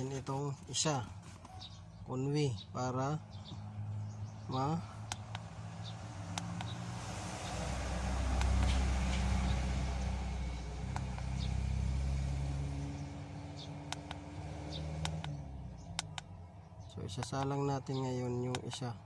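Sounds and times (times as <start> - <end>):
low engine hum: 0.0 - 19.0
motor vehicle passing: 0.9 - 17.6.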